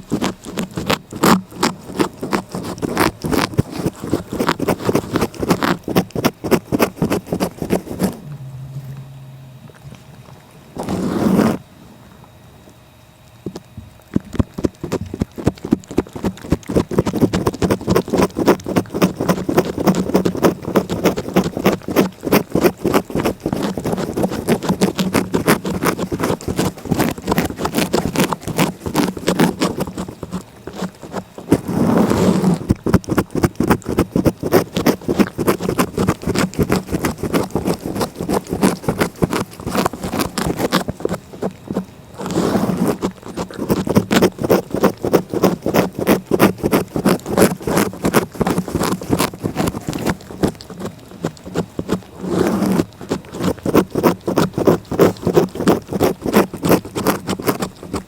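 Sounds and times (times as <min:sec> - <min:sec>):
cat licking: 0:00.0 - 0:08.4, 0:13.5 - 0:58.0
rubbing scrape: 0:00.0 - 0:11.6, 0:16.1 - 0:58.0.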